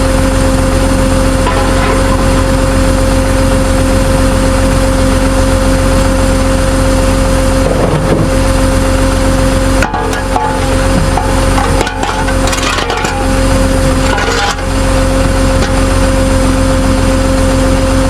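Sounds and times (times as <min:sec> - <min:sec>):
tow truck engine running: 0:00.0 - 0:18.0.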